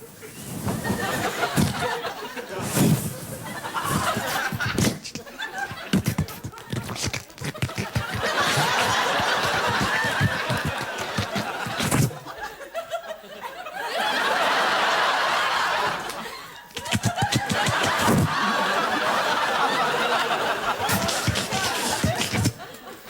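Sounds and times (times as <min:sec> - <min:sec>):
audience laughing: 0:00.0 - 0:23.0.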